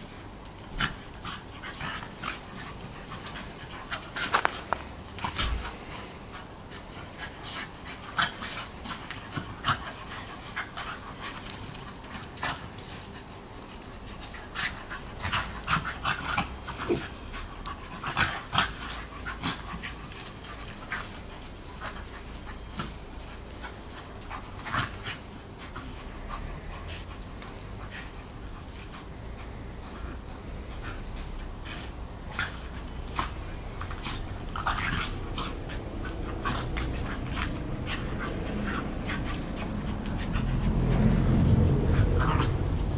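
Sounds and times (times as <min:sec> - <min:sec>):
dogs panting: 0:00.0 - 0:42.9
dogs play-fighting sharp sounds: 0:00.0 - 0:42.9.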